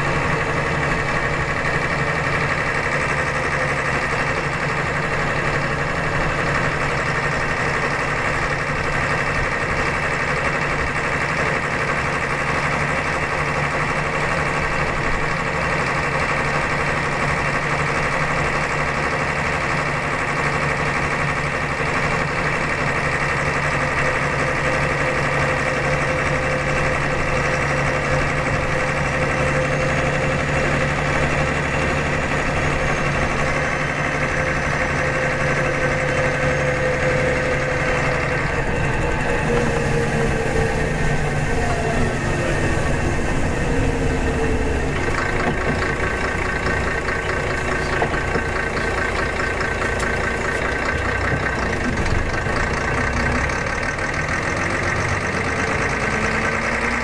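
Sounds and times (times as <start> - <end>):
diesel coach engine running: 0.0 - 57.0.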